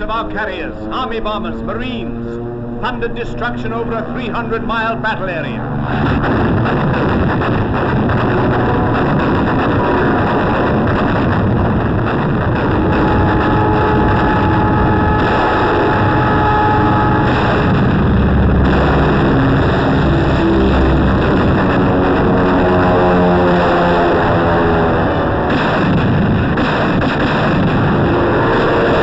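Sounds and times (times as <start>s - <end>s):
anti-aircraft gunfire: 0.0s - 2.0s, 2.8s - 29.0s
faint steady tones: 0.0s - 25.3s
warplane engines roaring: 0.0s - 29.0s.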